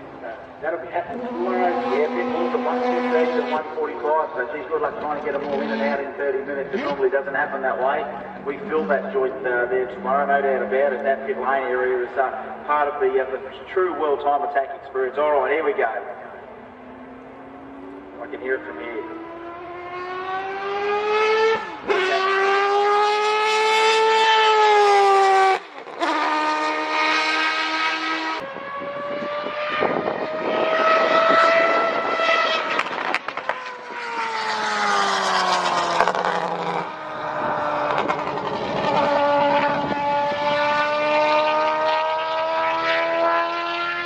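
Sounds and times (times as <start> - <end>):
race car engine revving: 0.0 - 14.2, 16.2 - 44.0.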